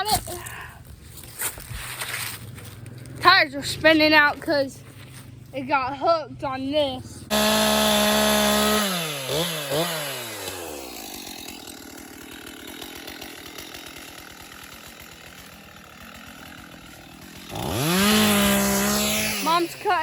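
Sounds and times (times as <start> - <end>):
chainsaw revving and idling: 2.2 - 20.0.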